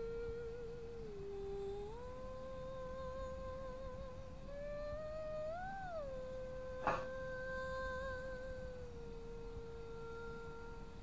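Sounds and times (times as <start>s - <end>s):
long held humming note: 0.0s - 11.0s.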